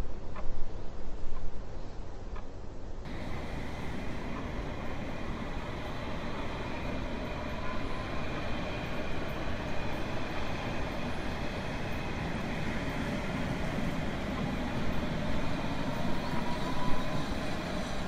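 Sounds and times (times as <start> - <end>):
train rumbling along track: 3.0 - 18.0.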